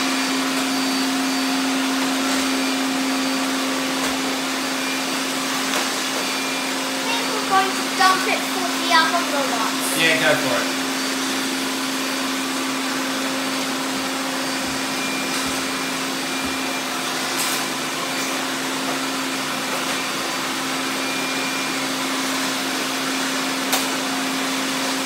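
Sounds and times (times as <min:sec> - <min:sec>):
robot vacuums whirring: 0:00.0 - 0:25.0.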